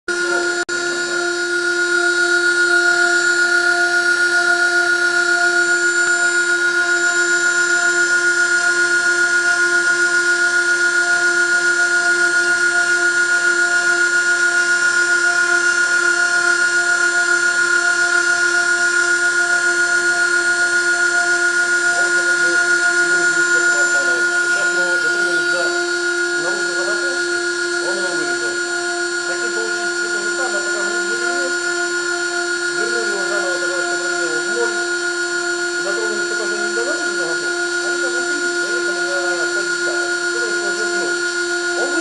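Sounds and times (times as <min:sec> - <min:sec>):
spindle motor high-pitched whine: 0:00.1 - 0:42.0.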